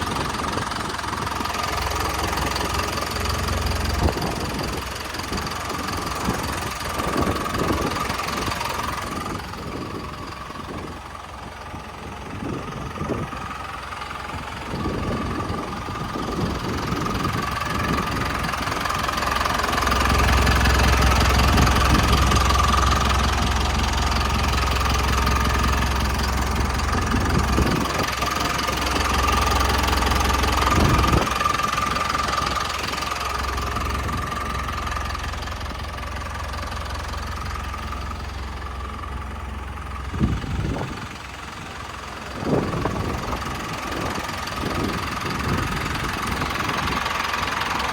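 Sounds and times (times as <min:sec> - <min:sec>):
deeper rumble: 0:00.0 - 0:47.9
diesel engine idling: 0:00.0 - 0:47.9.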